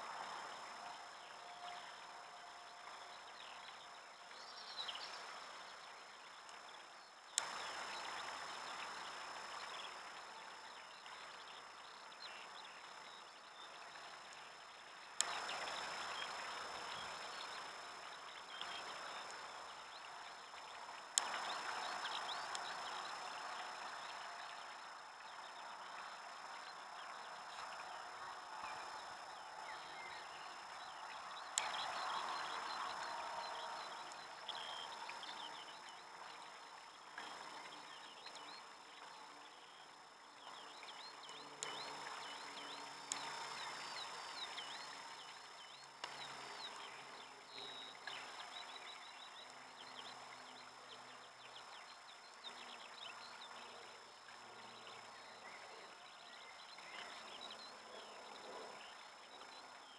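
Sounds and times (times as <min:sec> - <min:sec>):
water splashing and trickling: 0:00.0 - 0:59.9
small birds chirping: 0:02.8 - 0:59.9.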